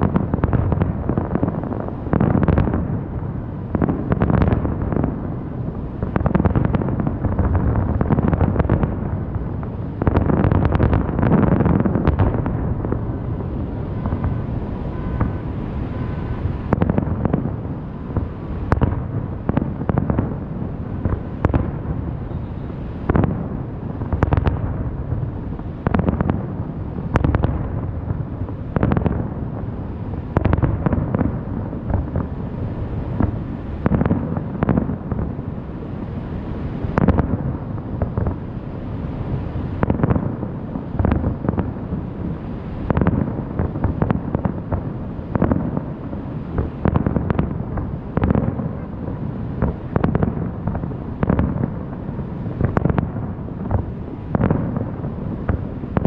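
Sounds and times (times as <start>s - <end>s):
fireworks booming and cracking: 0.0s - 56.0s.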